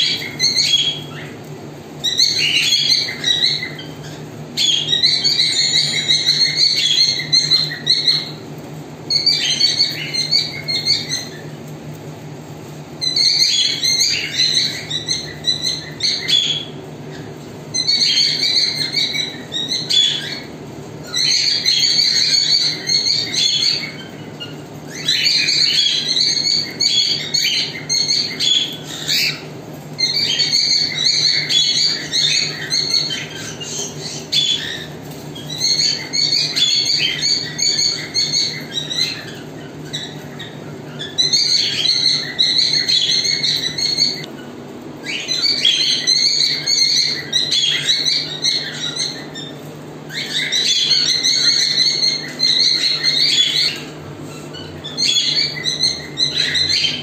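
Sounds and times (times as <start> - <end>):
cockatiels chirping and chattering: 0.0 - 57.0.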